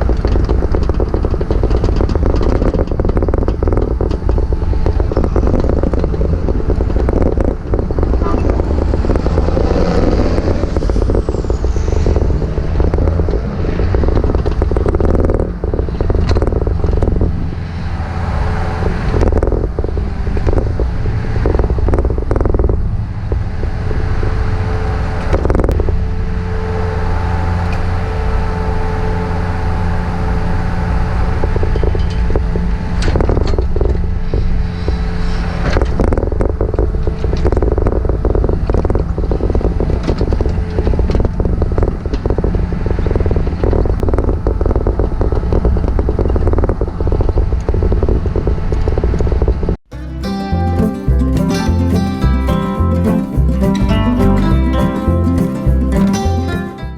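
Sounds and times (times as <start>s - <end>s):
heavy engine droning: 0.0s - 48.9s.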